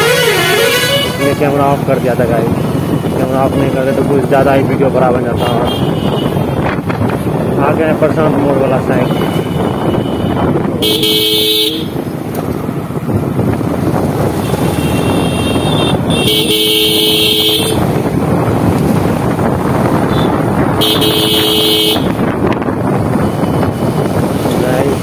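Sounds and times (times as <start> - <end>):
motorcycle riding in traffic: 0.0 - 25.0.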